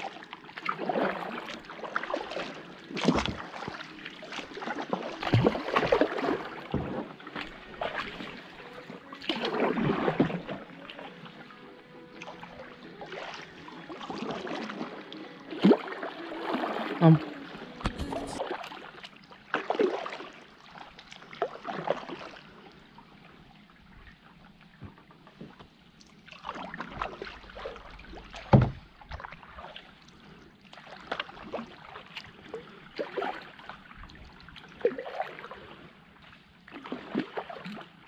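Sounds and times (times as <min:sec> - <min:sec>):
paddle strokes through water: 0:00.0 - 0:38.0.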